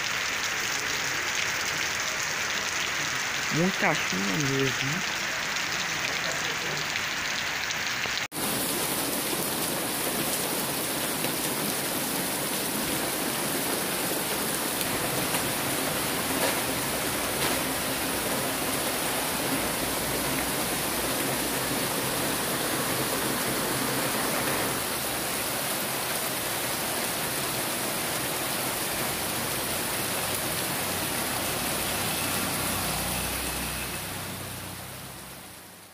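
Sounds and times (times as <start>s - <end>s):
heavy rain hissing: 0.0s - 35.9s.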